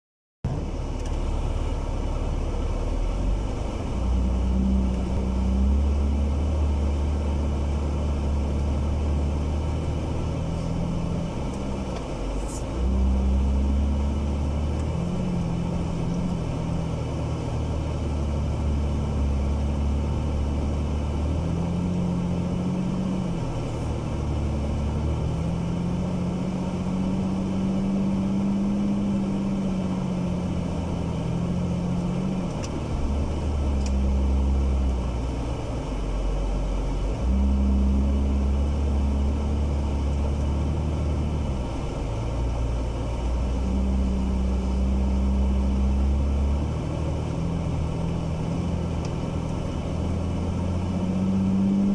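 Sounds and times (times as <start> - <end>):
car engine revving under load: 0.4 - 51.9.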